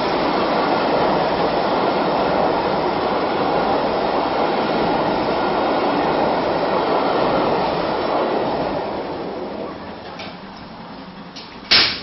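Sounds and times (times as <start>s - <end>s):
train wheels rushing on track: 0.0s - 12.0s.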